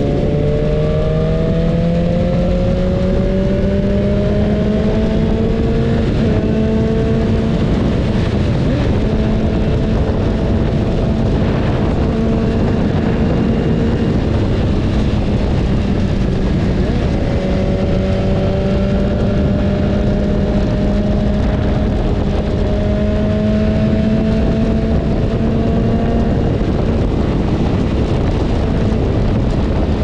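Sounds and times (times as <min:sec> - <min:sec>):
motorcycle engine accelerating: 0:00.0 - 0:30.0
wind and road noise: 0:00.0 - 0:30.0.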